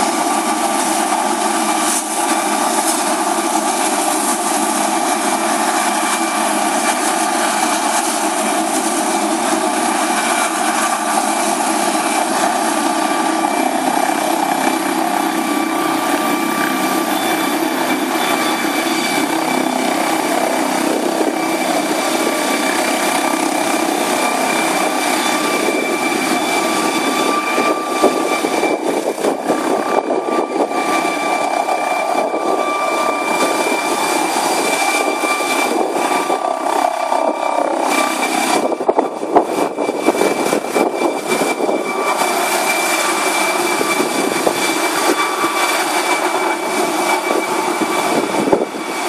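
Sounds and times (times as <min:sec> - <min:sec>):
helicopter rotor noise: 0:00.0 - 0:49.0
helicopter turbine whine: 0:00.0 - 0:49.0.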